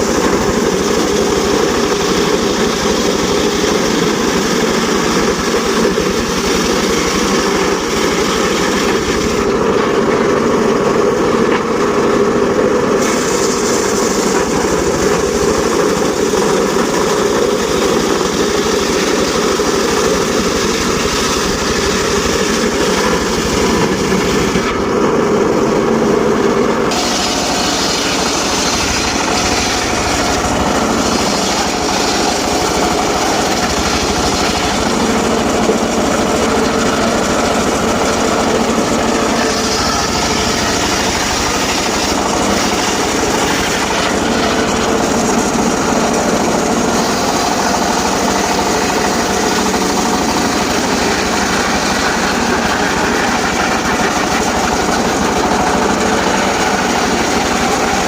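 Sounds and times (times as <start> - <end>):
engine-driven circular sawmill running: 0.0 - 58.0.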